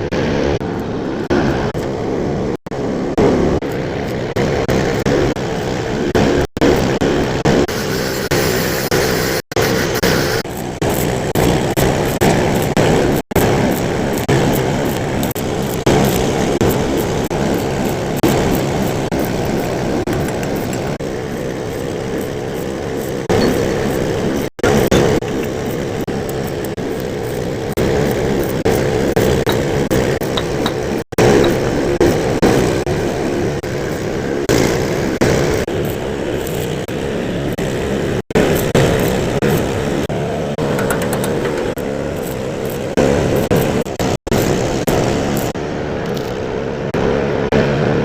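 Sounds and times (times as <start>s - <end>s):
welding arc crackling: 0.0s - 47.9s.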